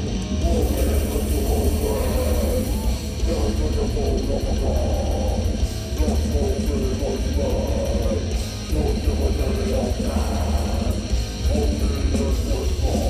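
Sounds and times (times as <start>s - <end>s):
bass and drums: 0.0s - 13.0s
distorted electric guitars: 0.0s - 13.0s.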